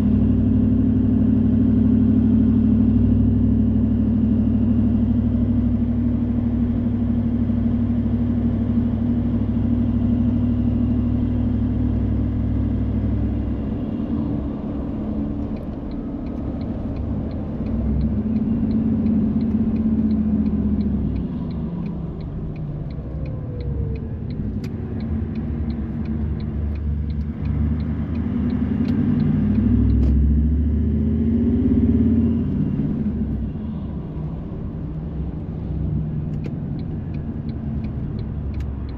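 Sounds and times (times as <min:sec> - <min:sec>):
car engine and road rumble: 0:00.0 - 0:38.9
turn signal ticking: 0:04.0 - 0:38.9.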